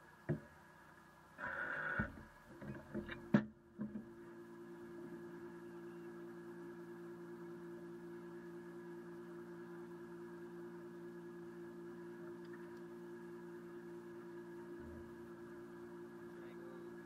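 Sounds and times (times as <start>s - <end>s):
steady multi-tone hum: 0.0s - 17.0s.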